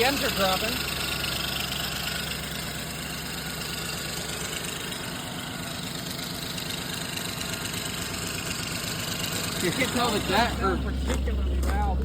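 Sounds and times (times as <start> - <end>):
car engine idling: 0.0 - 12.0
fast engine ticking: 0.0 - 12.0.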